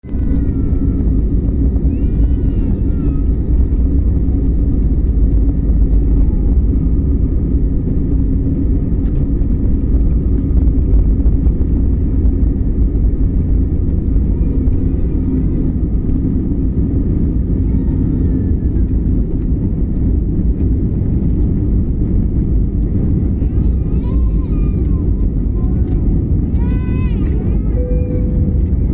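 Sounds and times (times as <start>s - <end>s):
jet engines rumbling: 0.0s - 28.9s.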